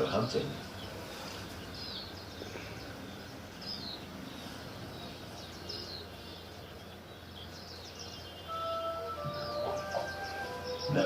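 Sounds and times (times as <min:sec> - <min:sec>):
bird chirping: 0:00.0 - 0:11.0
outdoor background hiss: 0:00.0 - 0:11.0.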